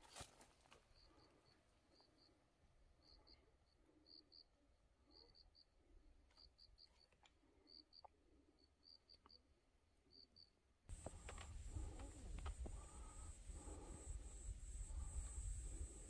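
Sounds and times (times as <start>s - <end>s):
faint cricket chirping: 0.8s - 9.5s, 10.1s - 16.0s.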